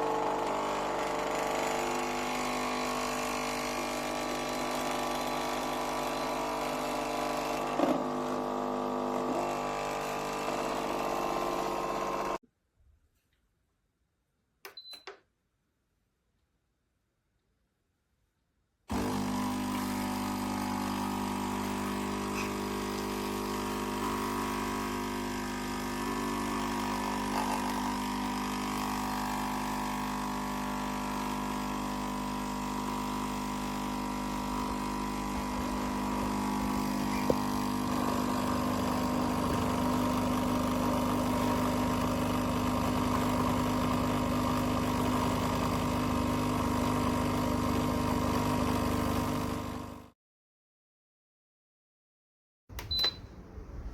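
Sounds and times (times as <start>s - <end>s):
coffee machine pump humming: 0.0s - 12.4s, 18.9s - 50.1s.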